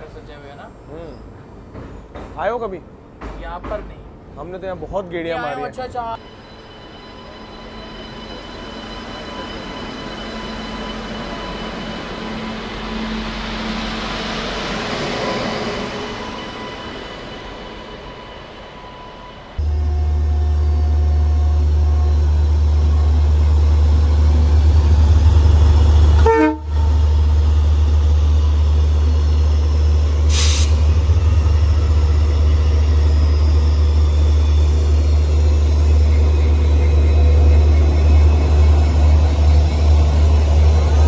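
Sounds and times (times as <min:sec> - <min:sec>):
train rumbling: 0:00.0 - 0:05.0, 0:05.9 - 0:41.0.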